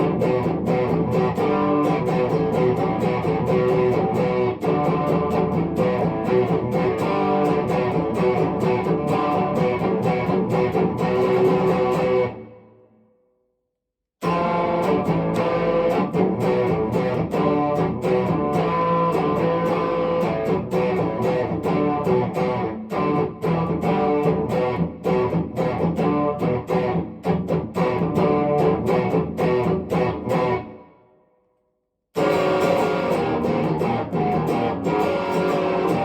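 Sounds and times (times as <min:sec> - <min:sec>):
electric guitar notes and chords: 0:00.0 - 0:12.6, 0:14.2 - 0:30.9, 0:32.2 - 0:36.0.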